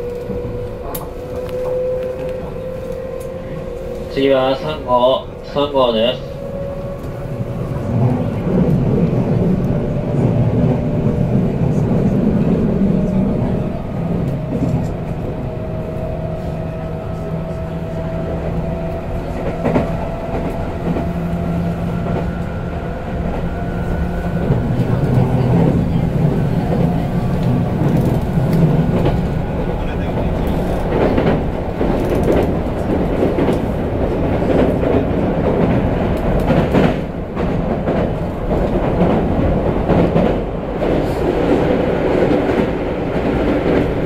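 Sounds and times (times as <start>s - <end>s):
train wheels rumbling with rail clatter: 0.0s - 44.0s.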